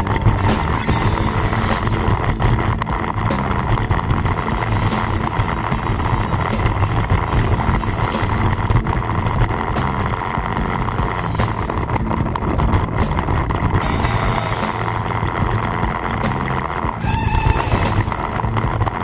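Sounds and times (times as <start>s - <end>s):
atv engine running: 0.0s - 19.0s
wind noise on microphone: 0.0s - 19.0s.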